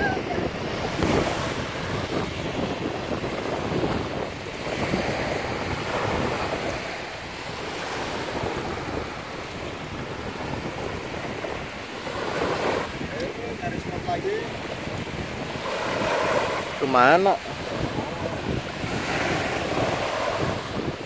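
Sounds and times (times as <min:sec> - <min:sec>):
small waves washing onto beach: 0:00.0 - 0:21.0
wind buffeting microphone: 0:00.0 - 0:21.0.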